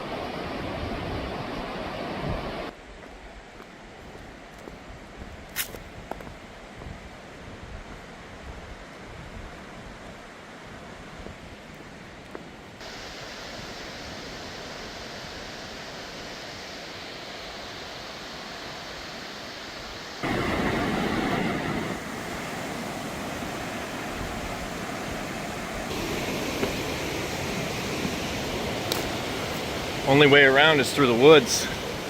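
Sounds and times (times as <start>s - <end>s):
fast river rushing: 0.0s - 2.8s, 7.2s - 32.0s.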